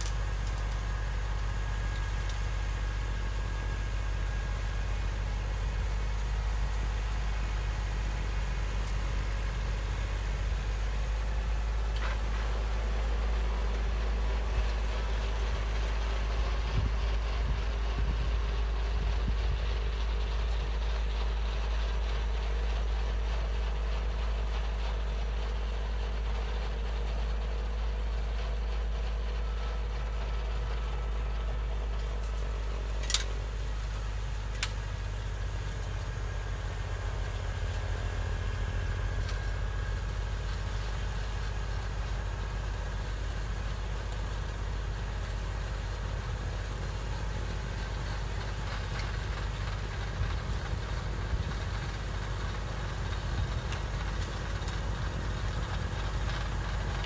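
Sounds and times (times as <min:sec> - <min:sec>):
snowblower throwing snow: 0:00.0 - 0:57.0
tractor diesel engine running: 0:00.0 - 0:57.0.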